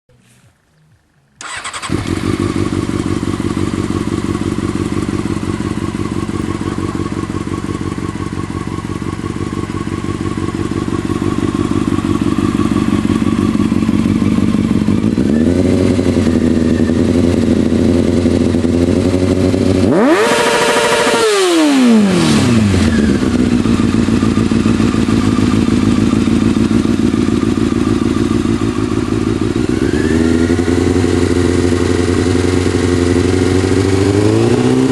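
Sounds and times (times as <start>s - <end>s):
motorcycle engine idling and revving: 1.4s - 34.9s.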